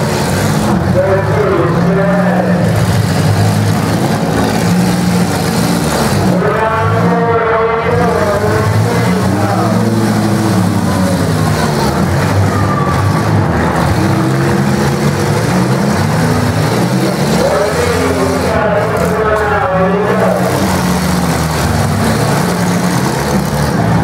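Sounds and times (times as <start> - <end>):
car engines revving loudly: 0.0 - 24.0.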